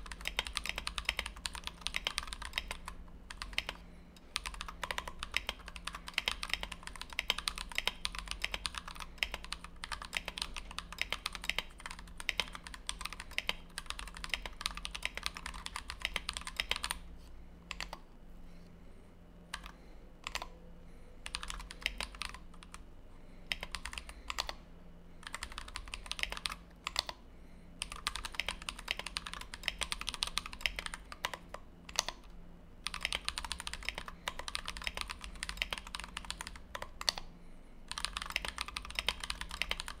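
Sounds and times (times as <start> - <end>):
fast typing on mechanical keyboard: 0.0 - 17.0, 17.7 - 18.0, 19.5 - 20.5, 21.2 - 22.8, 23.5 - 24.6, 25.2 - 27.2, 27.8 - 37.3, 37.9 - 40.0.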